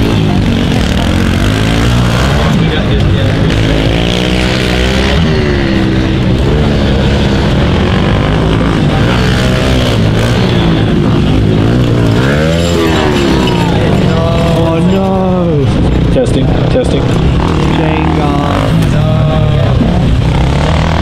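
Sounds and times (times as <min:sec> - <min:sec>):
pit bike engines revving: 0:00.0 - 0:21.0.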